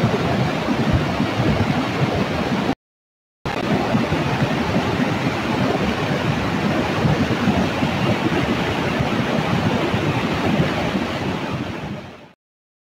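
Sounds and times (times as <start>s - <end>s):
flooded river rushing: 0.0s - 2.8s, 3.5s - 12.4s.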